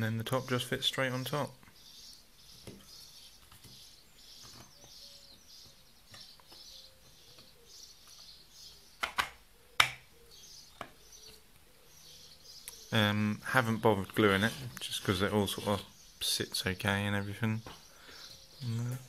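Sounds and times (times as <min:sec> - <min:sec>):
faint high chirping: 0:00.3 - 0:19.0.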